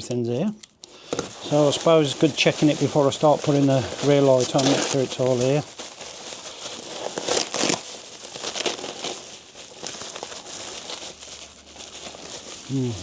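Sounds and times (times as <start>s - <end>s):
packaging bag crinkling: 0.7s - 13.0s.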